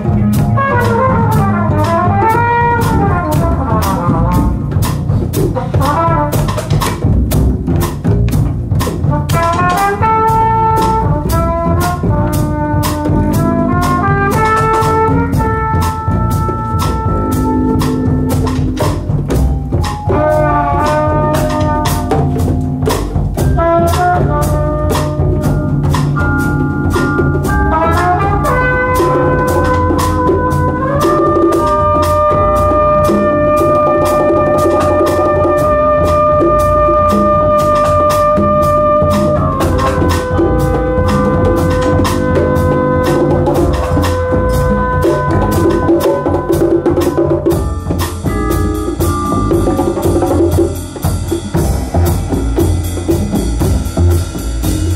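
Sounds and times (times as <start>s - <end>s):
trumpet playing: 0.0s - 6.9s, 9.1s - 50.8s
drum kit: 0.0s - 54.9s
hand drums: 0.0s - 54.9s.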